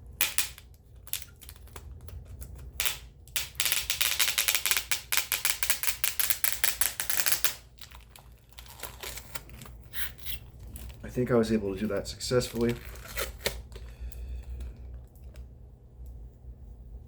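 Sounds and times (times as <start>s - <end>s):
tape peeling off plastic wrap: 0.4s - 15.4s.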